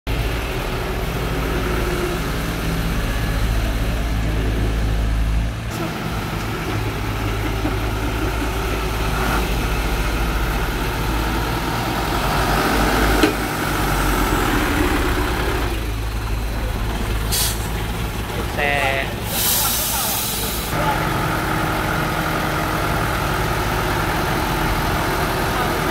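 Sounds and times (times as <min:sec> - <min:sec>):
diesel engines idling: 0:00.1 - 0:25.9.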